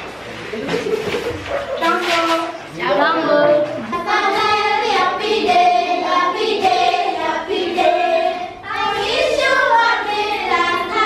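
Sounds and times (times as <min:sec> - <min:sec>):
children singing together: 0:01.7 - 0:11.0.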